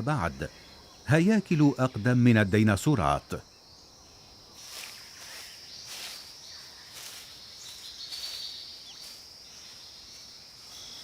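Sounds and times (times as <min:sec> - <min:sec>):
faint chirps: 0:00.0 - 0:11.0
insects droning: 0:00.0 - 0:11.0.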